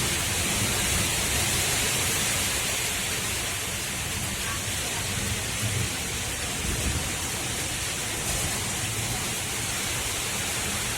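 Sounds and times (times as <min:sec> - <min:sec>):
water rushing: 0:00.0 - 0:10.9.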